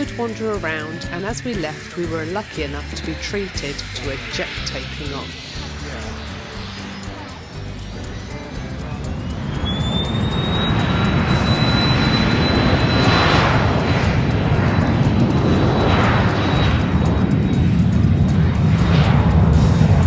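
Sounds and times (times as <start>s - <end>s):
high turbine whine: 0.0s - 20.0s
jet engine roar: 0.0s - 20.0s.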